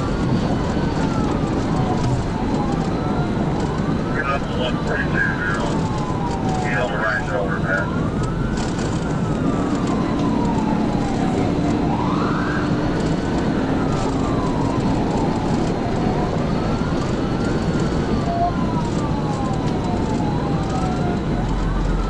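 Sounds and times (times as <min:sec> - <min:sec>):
engine and road noise: 0:00.0 - 0:22.0
police siren wailing: 0:00.0 - 0:22.0.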